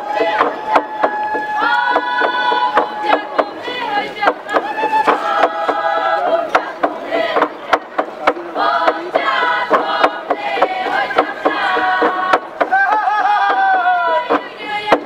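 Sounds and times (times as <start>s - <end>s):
group chanting and singing: 0.0s - 15.0s
log drum knocks: 0.2s - 13.1s.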